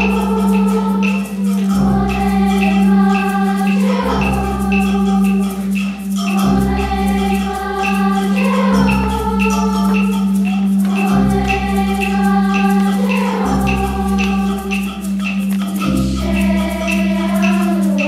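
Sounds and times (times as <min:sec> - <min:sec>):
children's choir singing: 0:00.0 - 0:18.0
instrumental accompaniment: 0:00.0 - 0:18.0.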